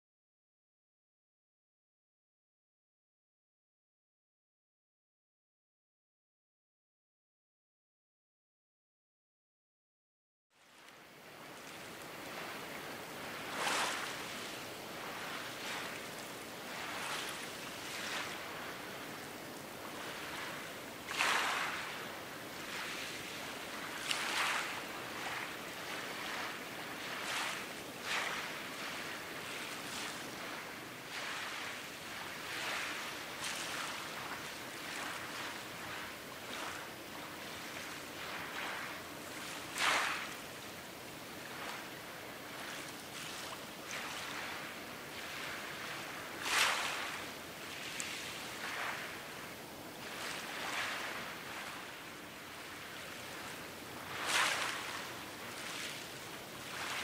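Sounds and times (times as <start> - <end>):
small waves lapping on shore: 10.6 - 57.0.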